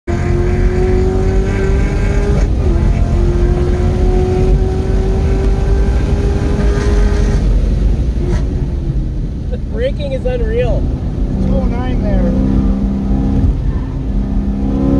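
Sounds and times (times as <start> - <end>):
car engine at full throttle: 0.1 - 14.9
road and wind rumble: 0.1 - 14.9.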